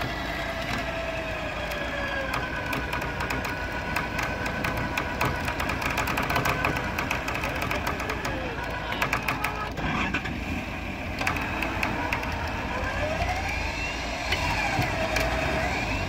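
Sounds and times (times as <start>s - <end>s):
electric winch motor whining: 0.0s - 16.0s
vehicle engine rumbling: 0.0s - 16.0s.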